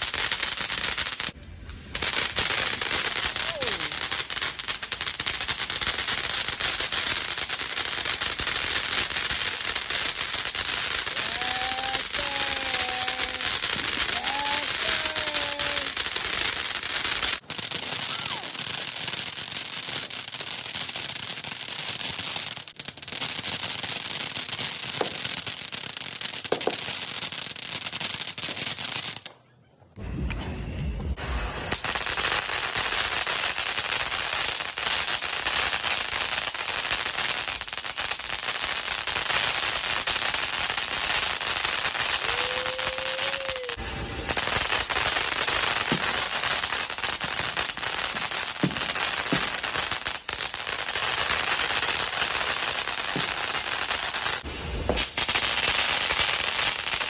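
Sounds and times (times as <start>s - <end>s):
fireworks crackling: 0.0s - 29.4s, 30.0s - 57.0s.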